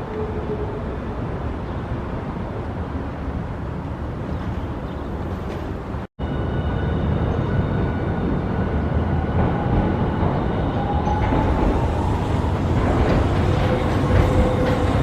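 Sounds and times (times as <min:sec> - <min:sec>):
faint tram whine: 0:00.0 - 0:15.0
tram rumble: 0:00.0 - 0:15.0.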